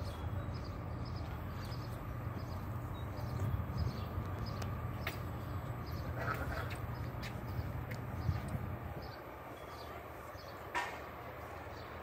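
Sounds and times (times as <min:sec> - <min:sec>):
steady low rumble: 0:00.0 - 0:10.3
birds chirping: 0:00.0 - 0:12.0.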